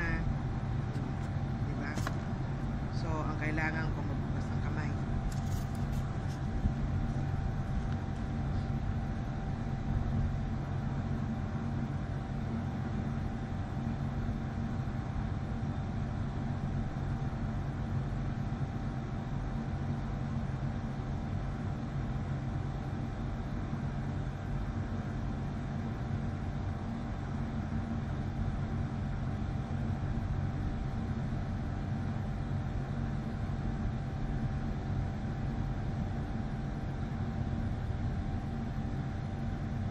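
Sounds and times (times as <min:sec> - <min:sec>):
faint steady whine: 0:00.0 - 0:39.9
low machine hum: 0:00.0 - 0:39.9.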